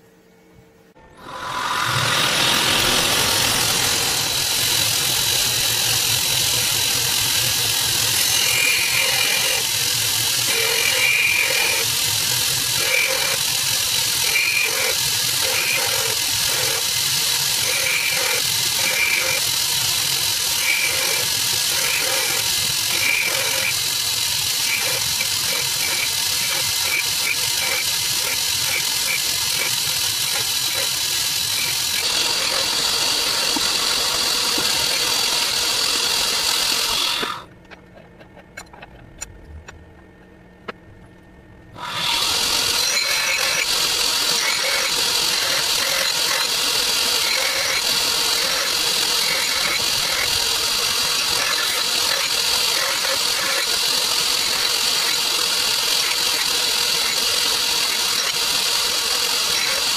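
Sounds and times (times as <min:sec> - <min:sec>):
belt grinder grinding blade: 0:01.2 - 0:37.5, 0:41.8 - 0:59.9.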